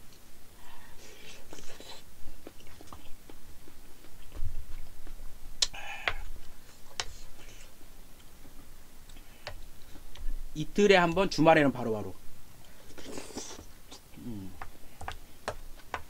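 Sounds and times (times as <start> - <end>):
man chewing food: 0.0 - 10.5, 12.5 - 16.0.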